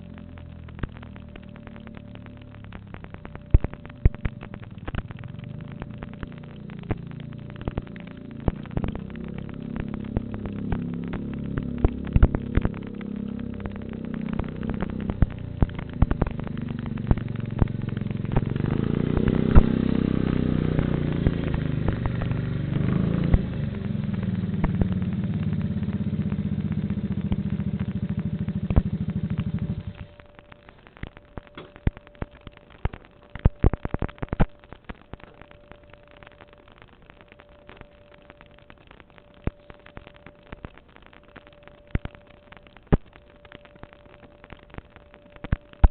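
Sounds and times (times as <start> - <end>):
low motor hum: 0.0 - 45.9
sharp pops and clicks: 0.0 - 45.9.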